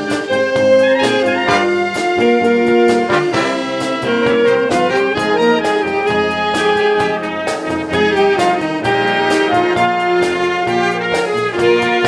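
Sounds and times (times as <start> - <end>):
brass chords: 0.0 - 12.0
steady drum beat: 0.0 - 12.0.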